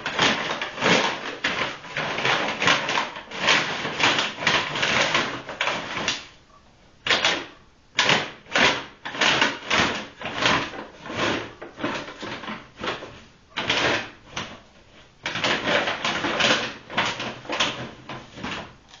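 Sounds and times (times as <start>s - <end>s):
plastic bag rustling: 0.0s - 6.4s, 7.0s - 18.8s.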